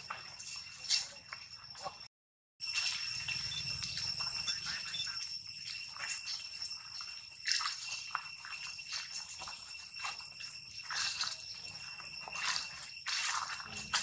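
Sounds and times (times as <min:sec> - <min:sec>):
high-pitched ringing drone: 0:00.0 - 0:14.0
footsteps through dry leaves: 0:02.6 - 0:14.0.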